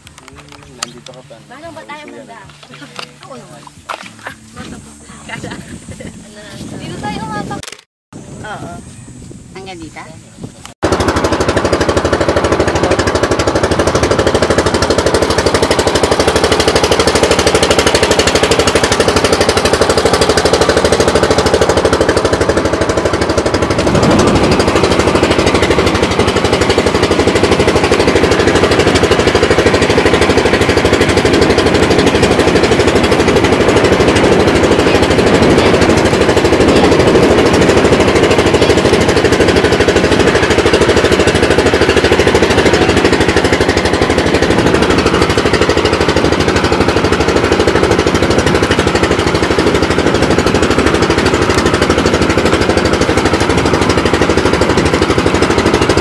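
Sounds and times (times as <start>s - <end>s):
boat engine pulsing: 0.0s - 56.0s.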